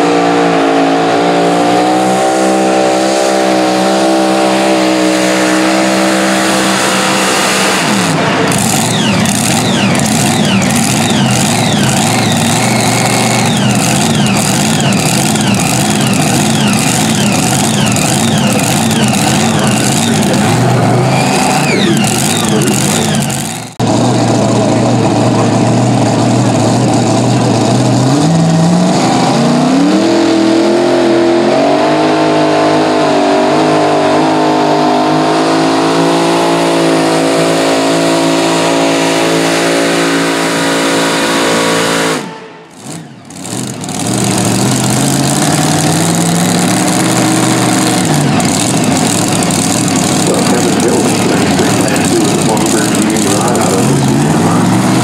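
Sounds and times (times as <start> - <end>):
tractor engine revving: 0.0 - 55.0.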